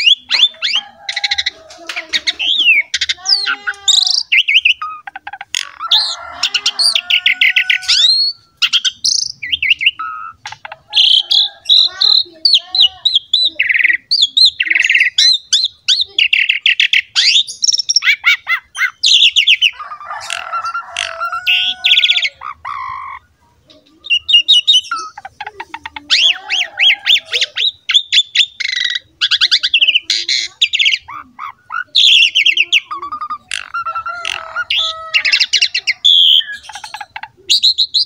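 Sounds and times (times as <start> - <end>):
starling singing: 0.0 - 38.0.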